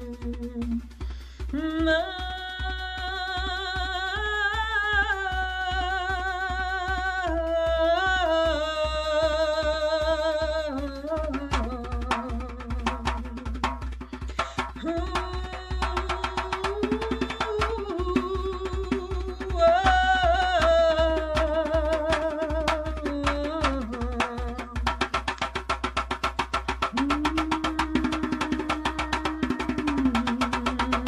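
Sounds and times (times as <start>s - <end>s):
hand drum beat: 0.0s - 31.0s.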